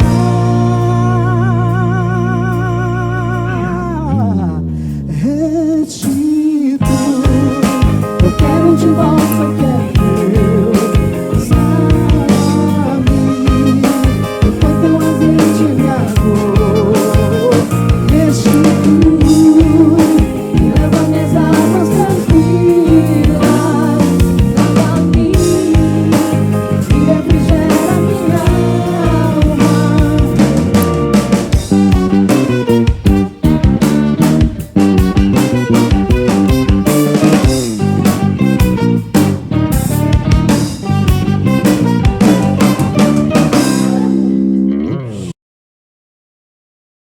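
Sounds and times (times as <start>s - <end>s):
band with drum kit: 0.0s - 4.0s, 5.7s - 45.3s
wavering lead melody: 6.8s - 45.3s.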